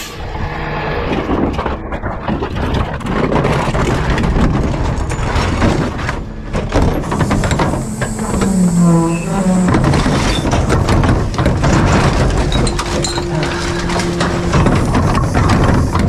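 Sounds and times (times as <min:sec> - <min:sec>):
garbage truck rumbling: 0:00.0 - 0:16.0
rattling and clanking knocks: 0:01.2 - 0:16.0.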